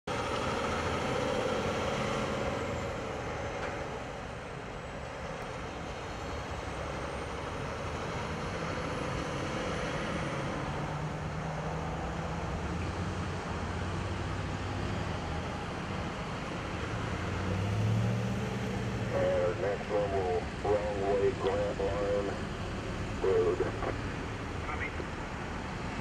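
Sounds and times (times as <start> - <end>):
other traffic: 0.1 - 26.0.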